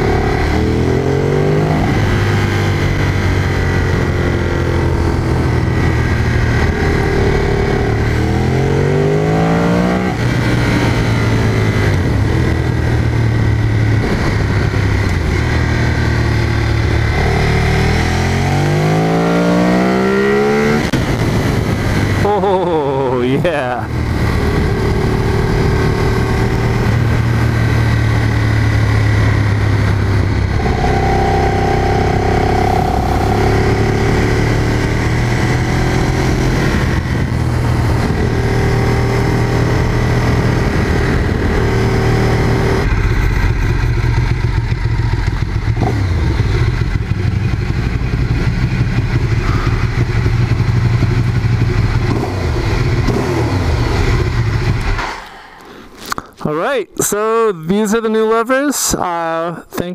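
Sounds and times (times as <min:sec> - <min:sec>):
motorcycle engine running: 0:00.0 - 0:55.6.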